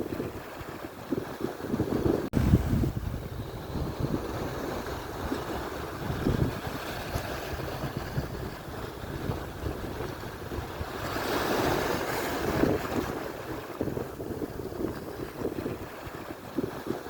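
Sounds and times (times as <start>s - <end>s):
surf washing onto shore: 0.0s - 17.0s
wind buffeting microphone: 0.0s - 17.0s.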